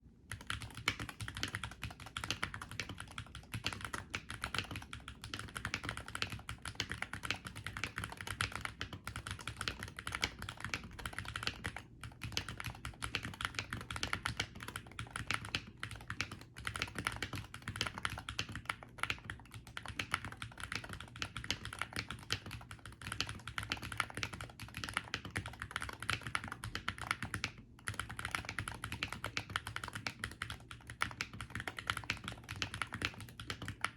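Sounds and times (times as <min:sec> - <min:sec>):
fast typing on keyboard: 0:00.3 - 0:33.9.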